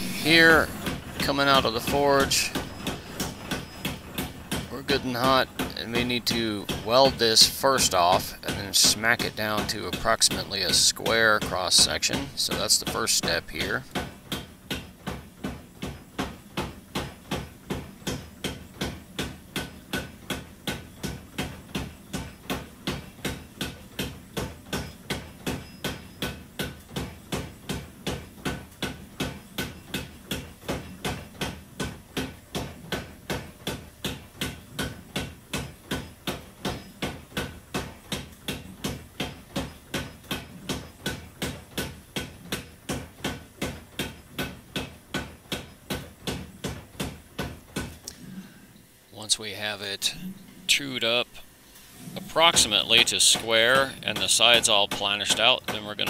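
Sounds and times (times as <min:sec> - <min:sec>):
power hammer pounding hot metal: 0:00.0 - 0:48.5, 0:51.9 - 0:56.0.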